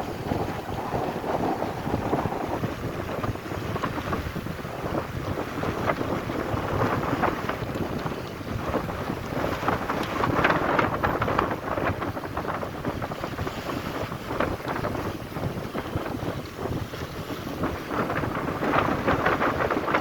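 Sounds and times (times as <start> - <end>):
choppy water splashing against boat: 0.0 - 20.0
strong wind buffeting microphone: 0.0 - 20.0.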